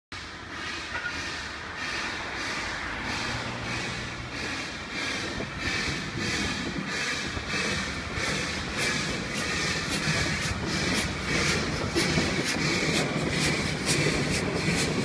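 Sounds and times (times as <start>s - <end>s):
steam locomotive chuffing: 0.1s - 15.0s
train rumble: 0.1s - 15.0s.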